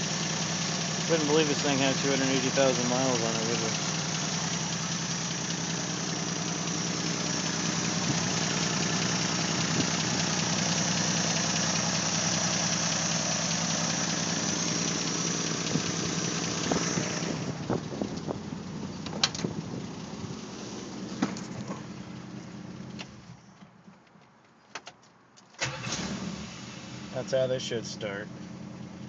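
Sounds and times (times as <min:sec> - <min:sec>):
car engine idling: 0:00.0 - 0:23.5, 0:25.6 - 0:29.0.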